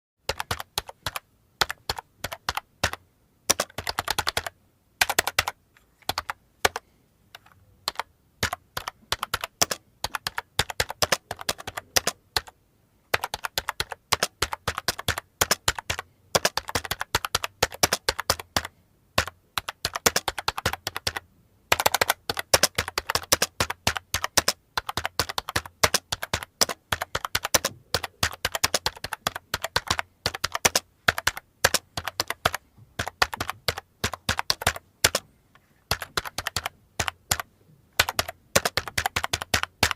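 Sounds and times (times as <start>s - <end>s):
typing on a keyboard: 0.3s - 6.8s, 7.4s - 12.5s, 13.1s - 35.2s, 35.9s - 39.9s.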